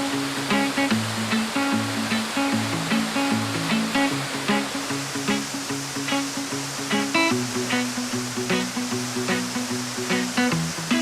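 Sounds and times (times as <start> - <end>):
plucked music with steady beat: 0.0 - 11.0
waterfall rushing: 0.0 - 11.0.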